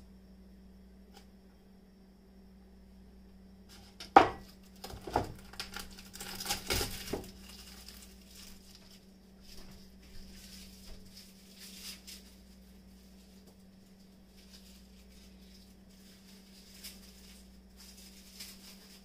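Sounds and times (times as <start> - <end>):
steady low hum: 0.0 - 19.0
rustling and handling: 3.7 - 19.0.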